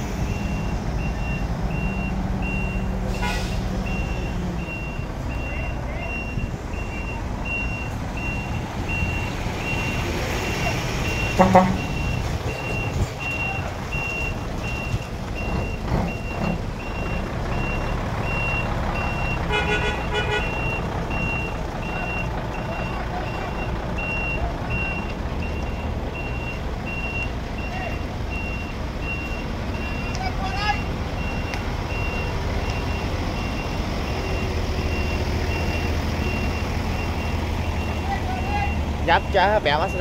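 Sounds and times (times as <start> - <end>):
diesel engine rumbling: 0.0 - 40.0.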